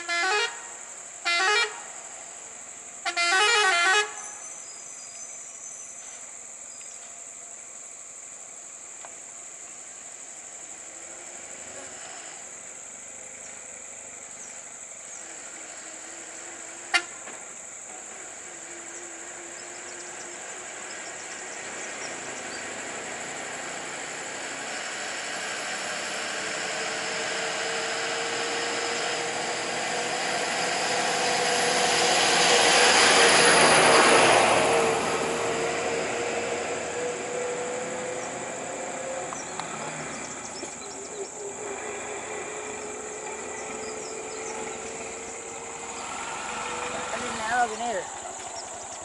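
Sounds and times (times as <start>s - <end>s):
insects droning: 0.0s - 49.0s
road vehicle passing: 8.6s - 49.0s.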